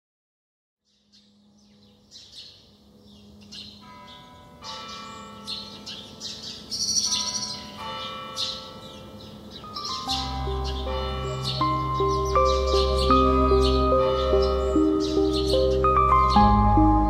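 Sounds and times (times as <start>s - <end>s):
birds chirping: 0.9s - 17.0s
church bells ringing: 1.8s - 17.0s.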